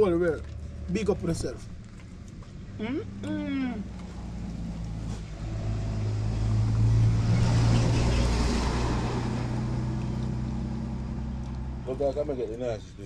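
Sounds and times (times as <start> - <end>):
motor vehicle passing: 0.0 - 12.8
low engine hum: 0.0 - 13.0.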